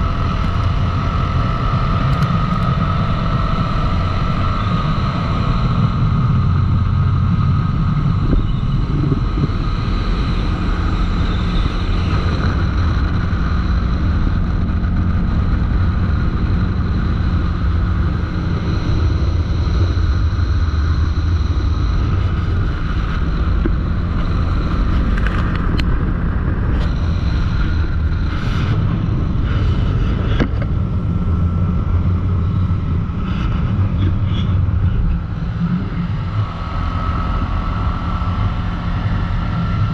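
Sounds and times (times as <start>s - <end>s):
atv engine running: 0.0s - 39.9s
wind on microphone: 0.0s - 39.9s.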